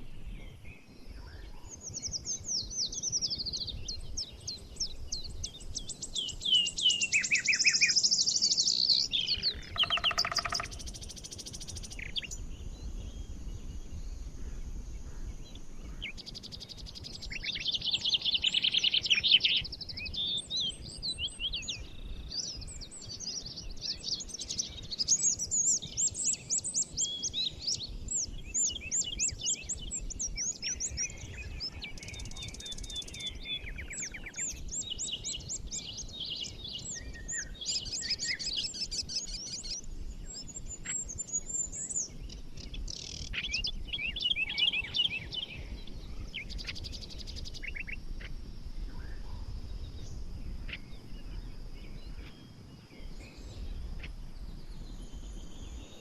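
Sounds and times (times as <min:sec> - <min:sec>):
small birds trilling and chirping: 0:00.0 - 0:56.0.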